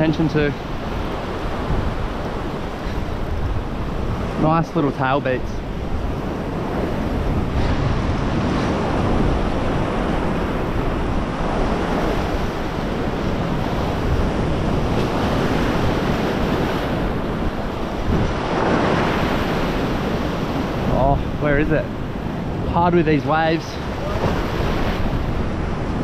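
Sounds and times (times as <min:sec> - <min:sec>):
ocean surf washing over rocks: 0:00.0 - 0:26.0
wind buffeting microphone: 0:00.0 - 0:26.0.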